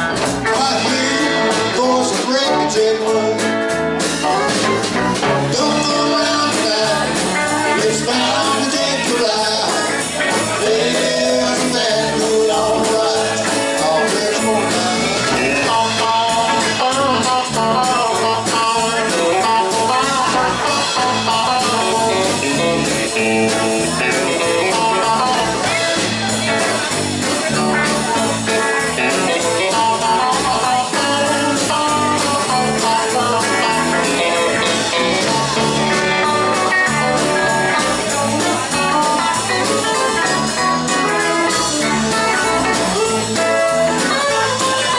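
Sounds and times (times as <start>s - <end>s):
bass guitar: 0.0s - 44.9s
drum kit steady beat: 0.0s - 44.9s
electric guitars: 0.0s - 44.9s.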